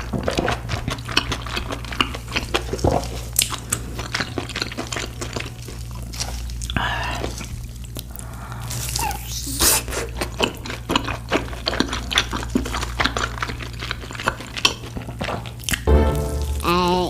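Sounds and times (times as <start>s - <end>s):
crunching and wet chewing: 0.0s - 15.9s.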